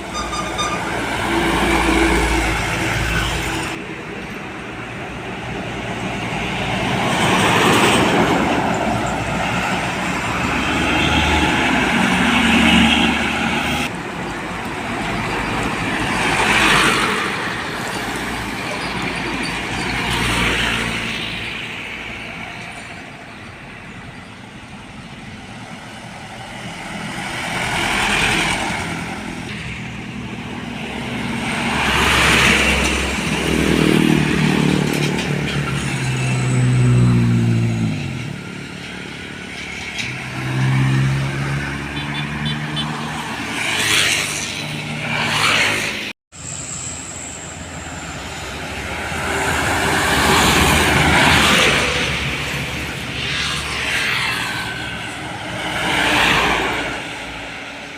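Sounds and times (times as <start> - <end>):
diesel trucks passing: 0.0 - 57.9
road traffic passing: 0.0 - 57.9.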